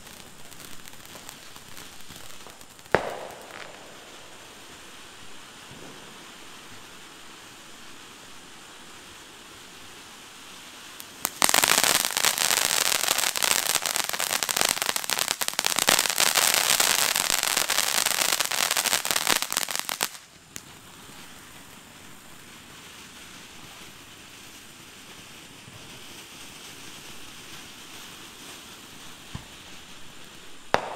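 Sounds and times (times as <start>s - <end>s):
faint hiss: 0.0s - 30.9s
firework crackling: 0.0s - 30.9s.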